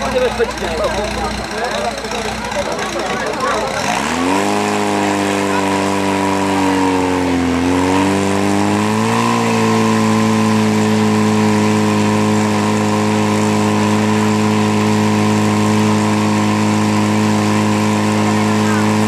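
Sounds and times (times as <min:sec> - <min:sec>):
fire pump engine running: 0:00.0 - 0:19.0.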